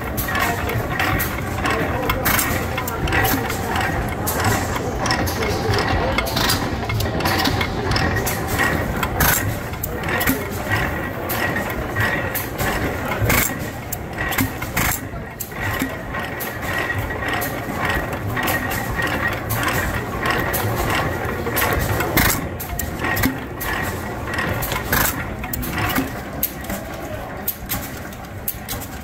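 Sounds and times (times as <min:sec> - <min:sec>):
stationary engines running: 0:00.0 - 0:29.0.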